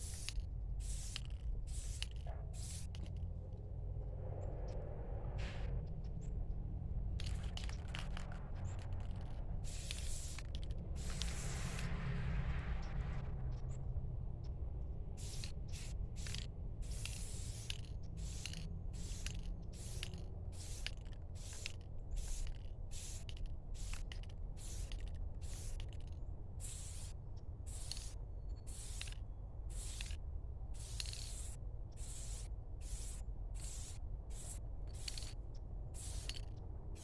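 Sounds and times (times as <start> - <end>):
spray paint can hissing: 0.0 - 3.1, 7.2 - 13.0, 15.2 - 37.0.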